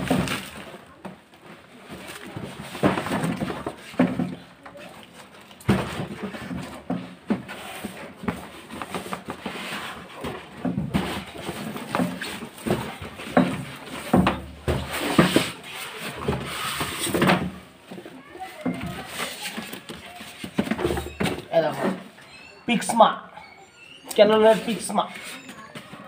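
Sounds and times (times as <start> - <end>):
cardboard scraping: 0.0 - 22.0.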